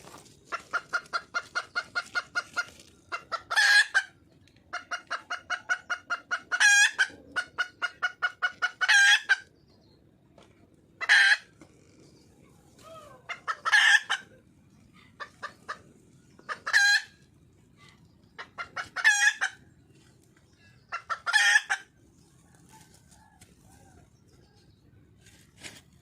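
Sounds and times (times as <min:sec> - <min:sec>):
junglefowl hen clucking calls: 0:00.0 - 0:09.6, 0:11.0 - 0:25.1.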